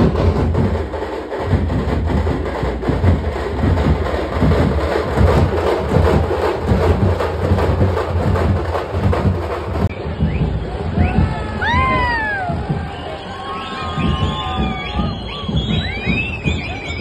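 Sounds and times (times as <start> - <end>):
bass drum: 0.0 - 13.1, 13.8 - 17.0
frame drums beaten with sticks: 0.0 - 13.1, 13.8 - 17.0.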